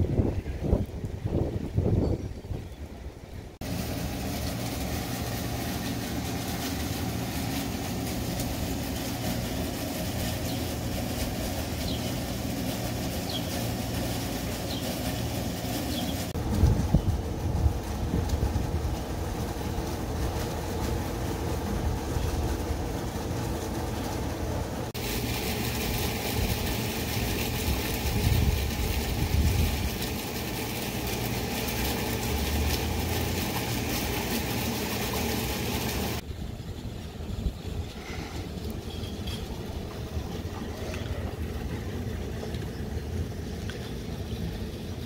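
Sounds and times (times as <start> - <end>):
outdoor rumble with hiss: 0.0 - 45.0.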